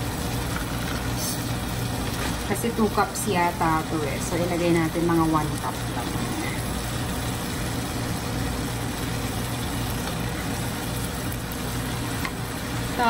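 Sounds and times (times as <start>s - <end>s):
food hissing in a skillet: 0.0s - 13.0s.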